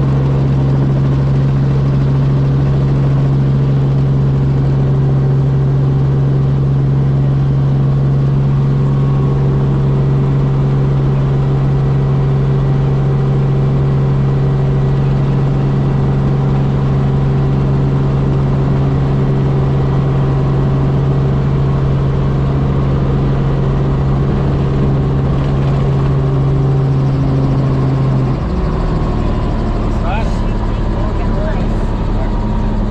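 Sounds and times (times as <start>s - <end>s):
helicopter engine and rotors droning: 0.0s - 32.9s.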